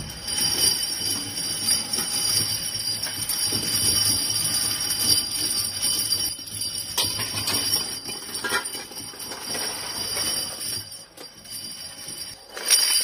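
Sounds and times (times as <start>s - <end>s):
metal parts clattering in steel bowl: 0.0s - 13.0s.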